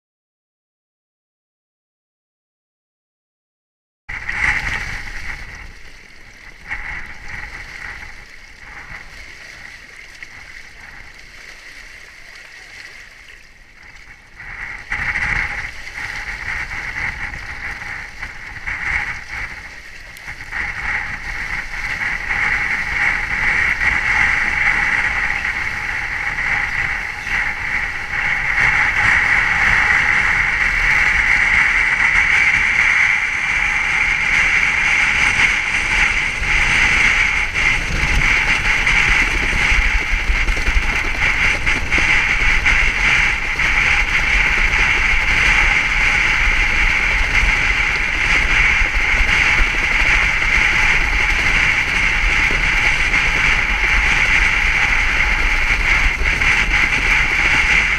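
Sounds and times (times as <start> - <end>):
water and wind rushing: 4.1 - 57.9.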